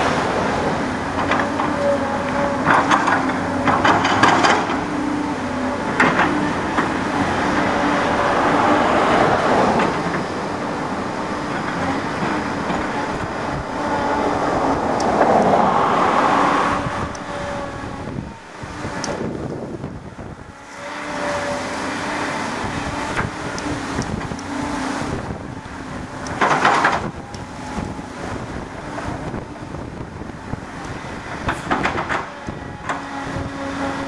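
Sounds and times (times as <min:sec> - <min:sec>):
heavy diesel machinery hum: 0:00.0 - 0:34.0
rushing noise: 0:00.0 - 0:34.0.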